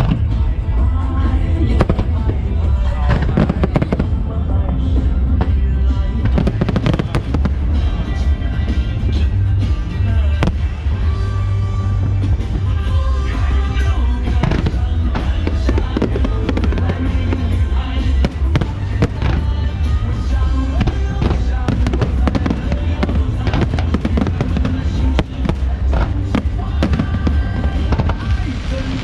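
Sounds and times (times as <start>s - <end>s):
fireworks bursting: 0.0s - 29.0s
loud music with heavy bass: 0.0s - 29.0s.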